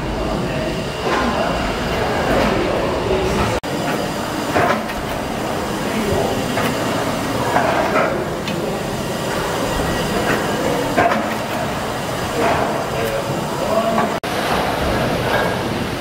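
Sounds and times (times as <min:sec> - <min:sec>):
steam engine running: 0:00.0 - 0:16.0.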